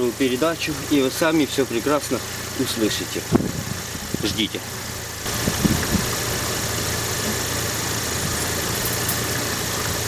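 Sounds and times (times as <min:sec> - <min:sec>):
car engine running: 0:00.0 - 0:10.0
wheel bearing hum: 0:00.0 - 0:10.0.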